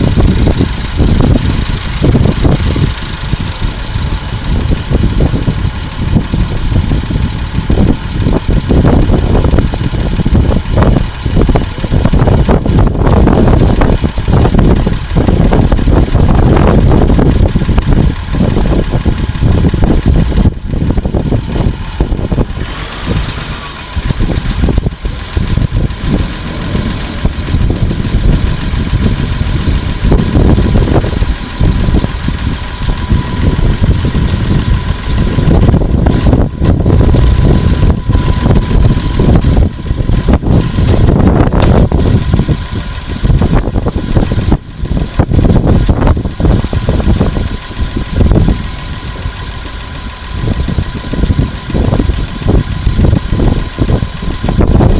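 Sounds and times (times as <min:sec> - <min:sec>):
heavy engine rumble: 0:00.0 - 0:54.9
steady high whine: 0:00.0 - 0:54.9.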